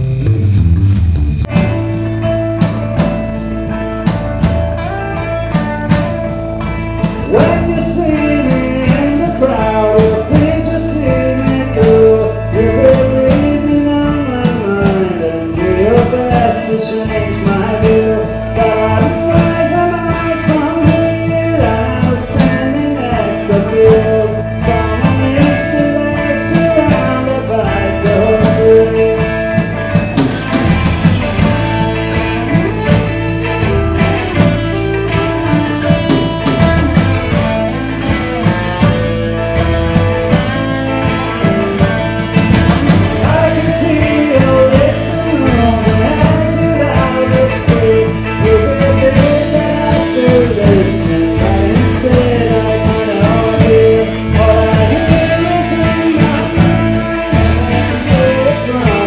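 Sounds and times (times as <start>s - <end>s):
bass guitar: 0.0s - 59.0s
drums and cymbals: 0.0s - 59.0s
electric guitars: 0.0s - 59.0s.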